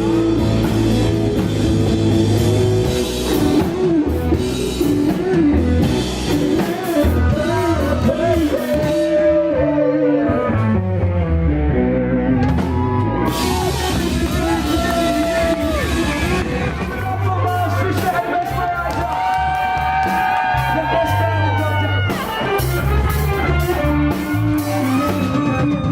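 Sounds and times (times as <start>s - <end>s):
rock band playing: 0.0s - 25.9s.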